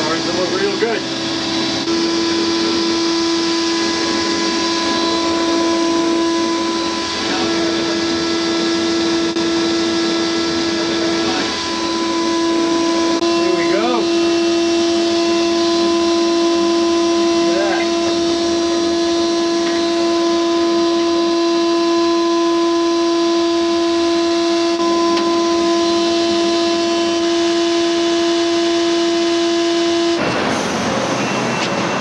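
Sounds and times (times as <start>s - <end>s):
sandblast cabinet droning: 0.0s - 31.5s.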